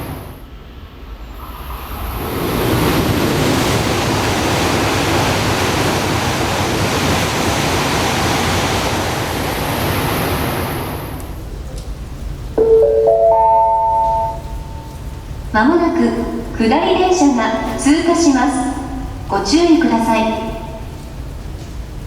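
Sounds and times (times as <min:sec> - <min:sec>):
high-speed train rushing roar: 0:00.0 - 0:22.0.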